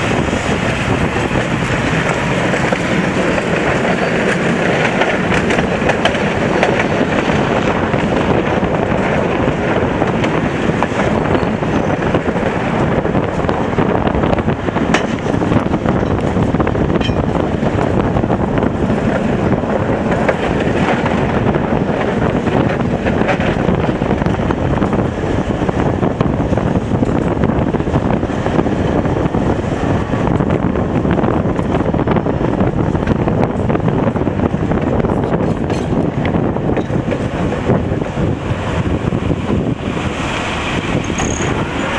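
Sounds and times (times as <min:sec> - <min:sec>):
tram wheels rumbling on rails: 0:00.0 - 0:41.9
wind noise on microphone: 0:00.0 - 0:41.9.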